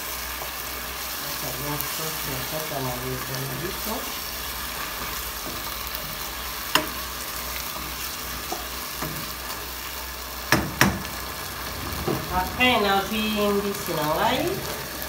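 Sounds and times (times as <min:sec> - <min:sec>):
mushrooms sizzling in a pot: 0:00.0 - 0:15.0.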